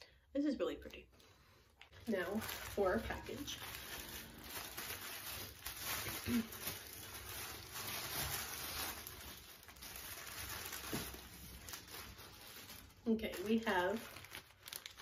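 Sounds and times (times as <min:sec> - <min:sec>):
tissue paper rustling: 0:00.8 - 0:15.0.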